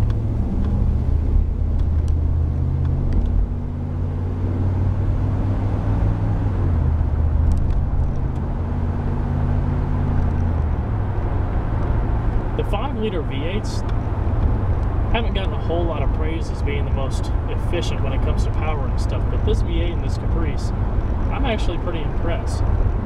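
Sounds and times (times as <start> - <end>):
car engine running from inside cabin: 0.0 - 23.0
tyre and road noise: 0.0 - 23.0.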